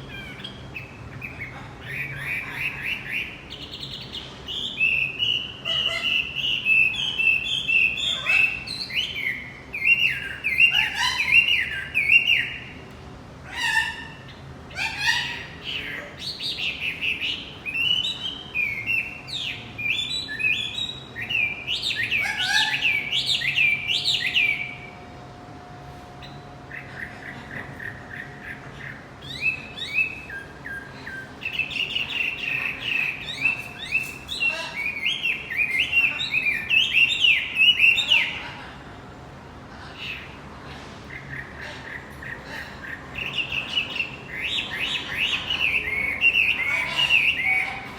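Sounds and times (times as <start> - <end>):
songbird singing: 0.0 - 12.8, 13.5 - 25.2, 26.2 - 38.4, 41.1 - 47.9.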